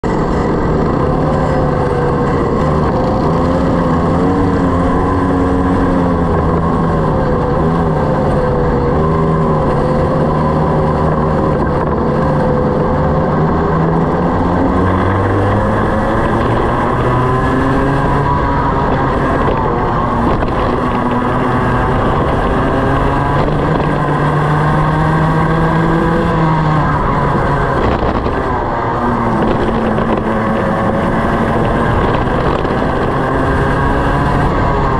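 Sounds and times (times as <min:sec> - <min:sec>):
kart engine revving: 0:00.0 - 0:34.9.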